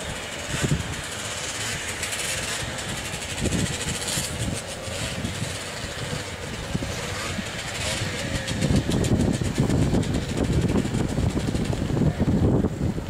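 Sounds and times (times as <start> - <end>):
snowmobiles idling: 0.0 - 13.0.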